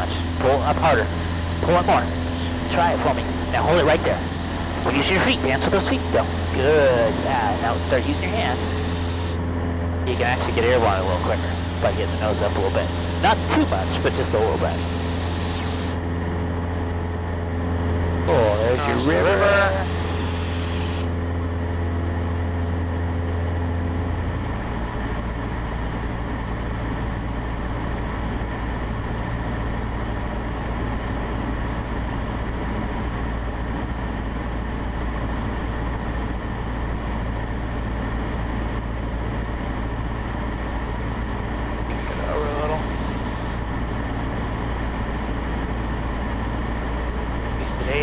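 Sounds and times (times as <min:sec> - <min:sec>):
light aircraft engine and propeller droning: 0:00.0 - 0:48.0.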